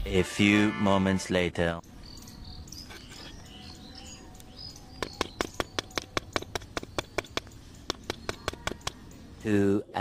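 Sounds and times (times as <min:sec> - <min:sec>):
faint bird chirps: 0:01.6 - 0:10.0.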